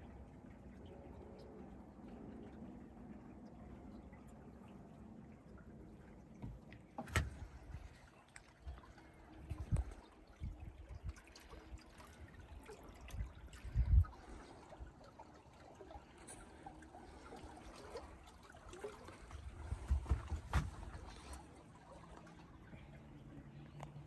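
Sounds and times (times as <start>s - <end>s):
water lapping against metal hull: 0.0s - 24.0s.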